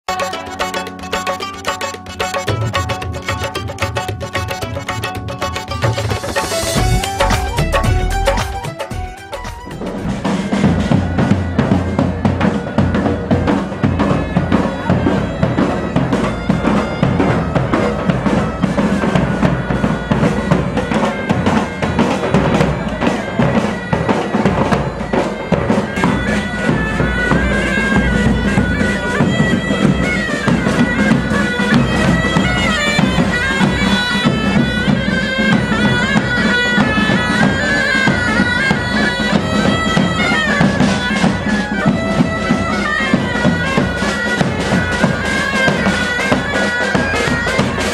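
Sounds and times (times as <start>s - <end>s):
bagpipes melody over drone: 0.1s - 47.9s
drums beating: 0.1s - 47.9s.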